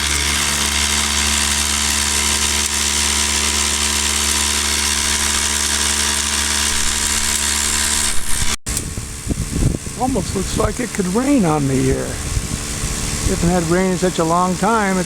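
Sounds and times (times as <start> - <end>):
vibrator motor humming: 0.0 - 15.0.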